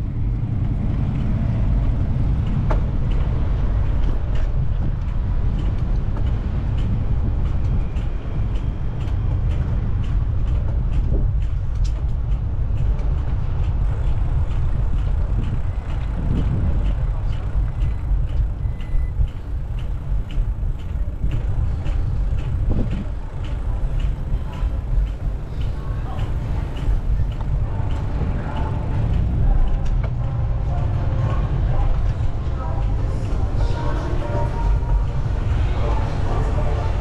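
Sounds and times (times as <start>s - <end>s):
city traffic: 0.0s - 37.0s
light regular ticking: 0.0s - 37.0s
wind buffeting microphone: 0.0s - 37.0s.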